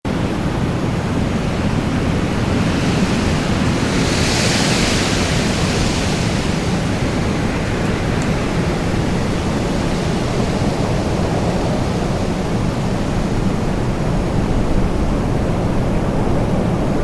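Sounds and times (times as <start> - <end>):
strong wind rushing: 0.0 - 17.0.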